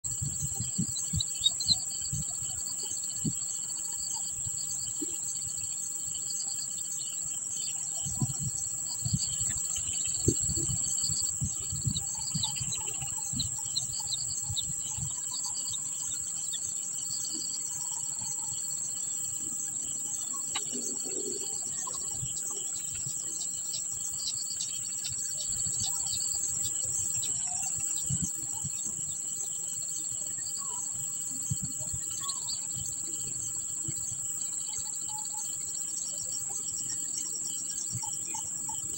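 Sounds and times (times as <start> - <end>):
insects droning: 0.0 - 38.9
faint bird chirps: 0.2 - 33.9.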